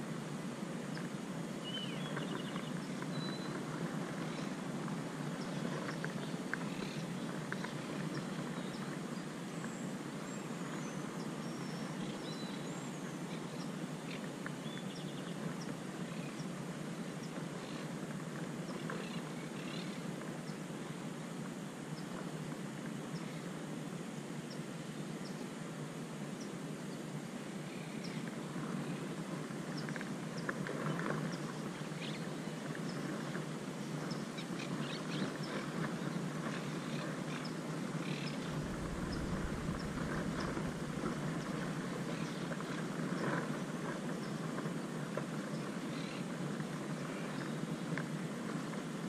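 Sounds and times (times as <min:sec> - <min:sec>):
low background noise: 0:00.0 - 0:49.0.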